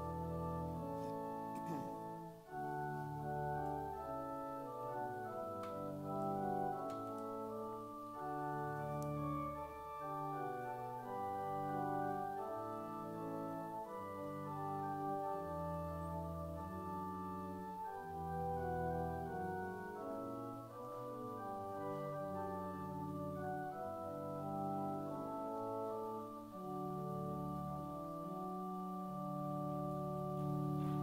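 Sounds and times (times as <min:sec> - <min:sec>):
church organ chords: 0:00.0 - 0:31.0.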